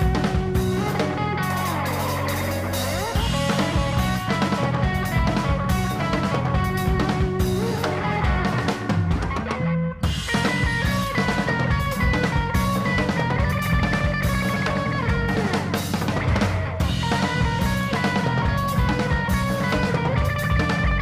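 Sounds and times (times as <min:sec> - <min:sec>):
rock music with guitar and drums: 0:00.0 - 0:21.0.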